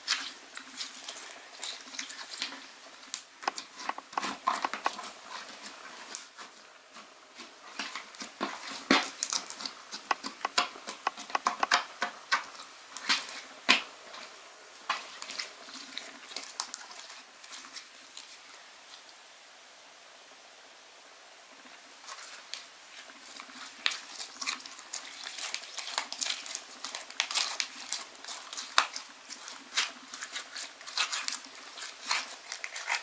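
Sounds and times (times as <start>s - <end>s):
hands squishing slime: 0.0s - 14.3s, 14.9s - 18.6s, 22.1s - 33.0s.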